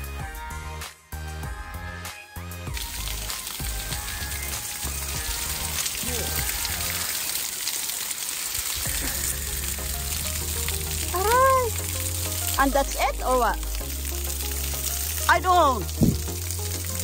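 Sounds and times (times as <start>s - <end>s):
background music: 0.0s - 7.6s, 8.7s - 17.0s
water dripping and trickling: 2.7s - 17.0s.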